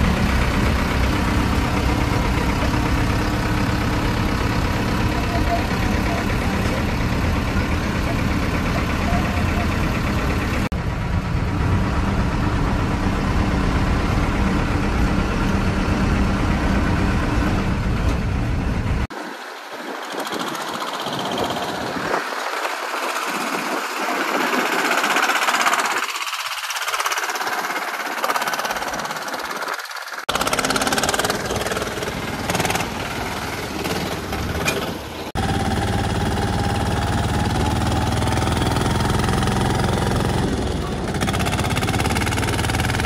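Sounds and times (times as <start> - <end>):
bus engine deep rumble: 0.0 - 29.5, 30.1 - 43.0
engine and road noise: 0.0 - 43.0
small tractor engine running: 0.0 - 43.0.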